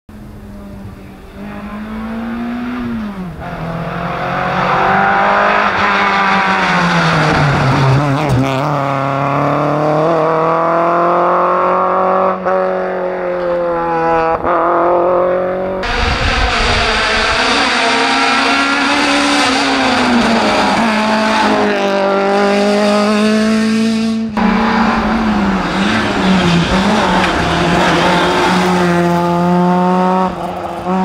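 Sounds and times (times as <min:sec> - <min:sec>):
rally car engine revving: 0:00.2 - 0:31.0.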